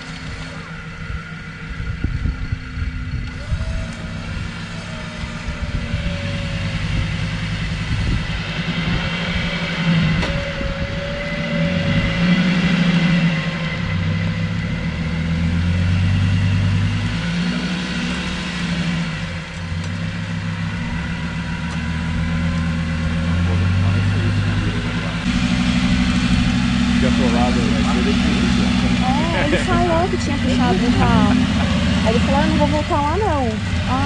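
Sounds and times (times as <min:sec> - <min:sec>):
engine revving under load: 0:00.0 - 0:34.0.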